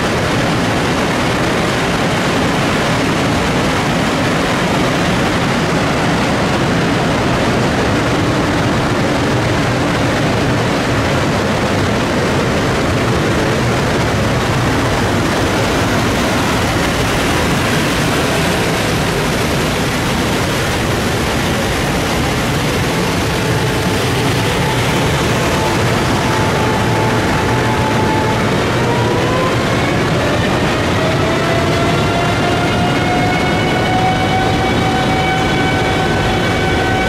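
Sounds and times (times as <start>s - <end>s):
electric locomotive running: 0.0s - 37.0s.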